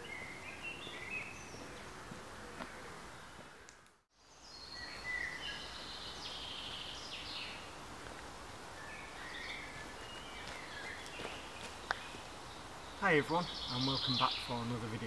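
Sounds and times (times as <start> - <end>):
songbirds chirping and warbling: 0.0 - 15.0
steady outdoor hiss: 0.0 - 15.0.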